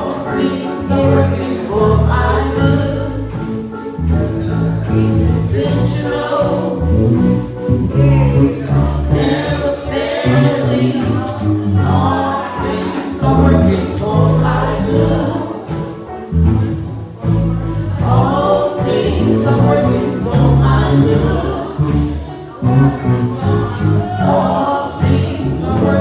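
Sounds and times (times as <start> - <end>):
bass line: 0.0 - 26.0
gospel choir singing: 0.0 - 26.0.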